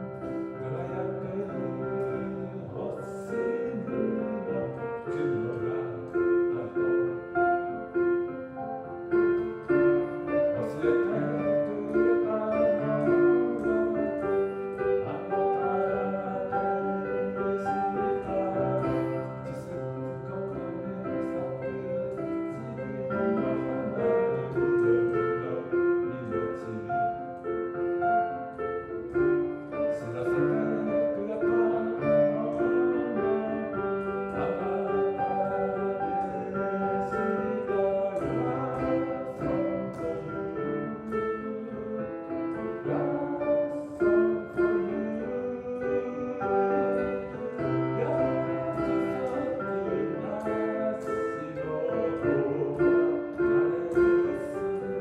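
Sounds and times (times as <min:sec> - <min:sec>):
slow piano tune: 0:00.0 - 0:55.0.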